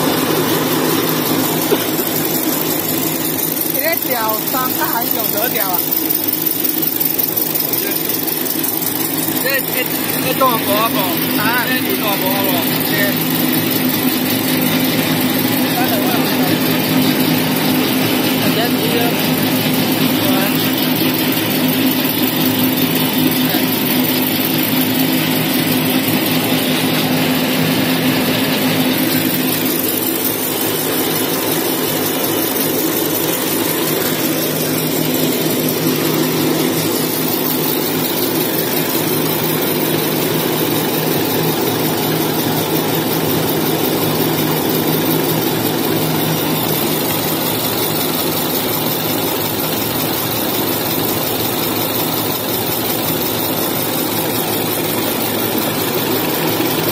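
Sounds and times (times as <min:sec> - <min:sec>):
machine motor hum: 0:00.0 - 0:56.9.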